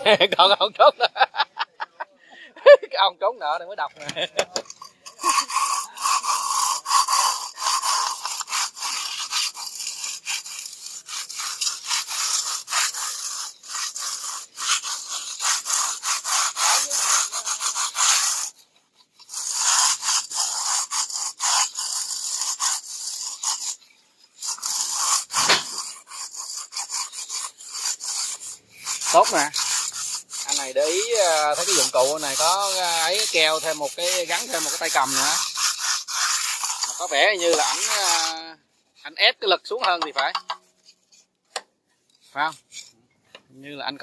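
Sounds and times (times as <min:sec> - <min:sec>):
trowel scraping cement render: 0:00.0 - 0:02.8, 0:03.4 - 0:44.0.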